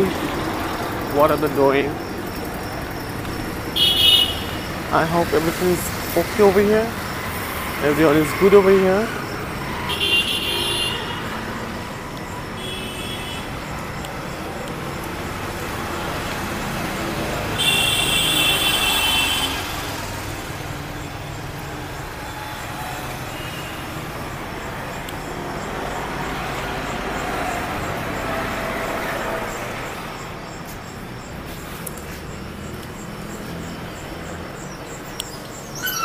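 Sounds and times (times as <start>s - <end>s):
passing vehicles hum: 0.0s - 36.0s.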